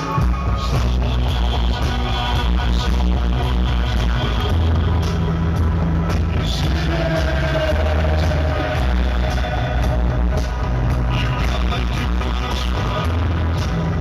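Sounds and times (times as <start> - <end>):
synth-pop music over pa: 0.0 - 14.0.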